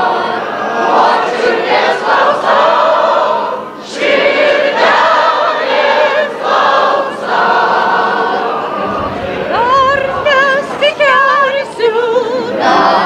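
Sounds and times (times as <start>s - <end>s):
choir singing with vibrato: 0.0s - 13.0s.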